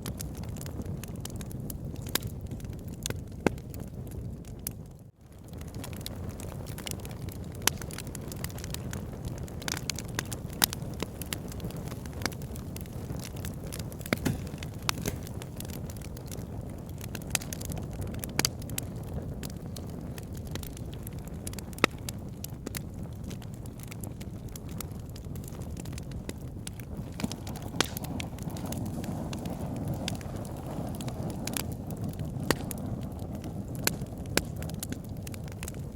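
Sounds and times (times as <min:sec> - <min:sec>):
fire burning in fireplace: 0:00.0 - 0:35.9
wood crackling and popping: 0:00.0 - 0:35.9
burning wood snapping: 0:05.4 - 0:35.9.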